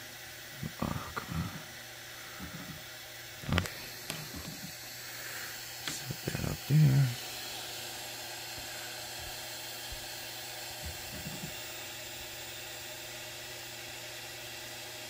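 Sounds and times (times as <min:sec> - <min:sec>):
printer fan whirring: 0:00.0 - 0:15.0.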